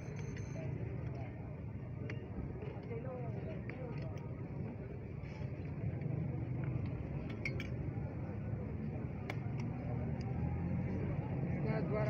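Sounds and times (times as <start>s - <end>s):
crowd chatter: 0.0s - 12.0s
street traffic: 0.0s - 12.0s.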